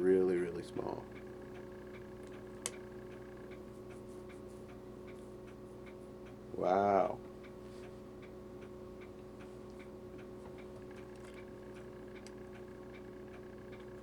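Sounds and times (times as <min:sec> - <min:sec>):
clock ticking: 0:00.0 - 0:07.6, 0:08.2 - 0:14.0.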